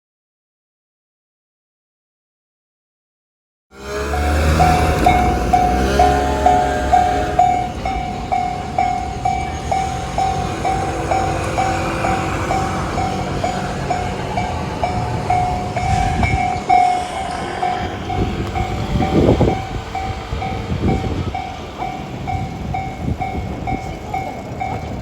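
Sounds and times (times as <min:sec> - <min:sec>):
freight train rumble: 0:03.8 - 0:25.0
level-crossing alarm dinging: 0:03.8 - 0:25.0.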